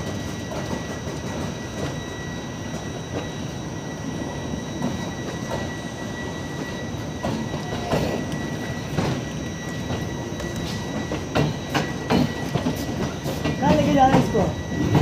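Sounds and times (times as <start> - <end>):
train coaches rumbling: 0.0 - 15.0.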